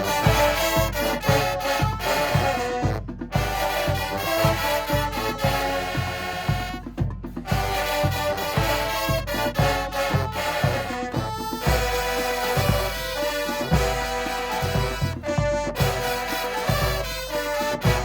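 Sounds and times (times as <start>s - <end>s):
brass horns: 0.0s - 18.0s
steady drum beat: 0.0s - 18.0s.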